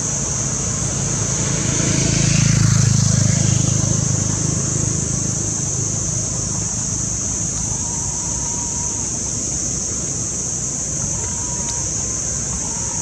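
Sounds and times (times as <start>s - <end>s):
high-pitched hiss: 0.0s - 13.0s
passing vehicle rumble: 0.0s - 13.0s.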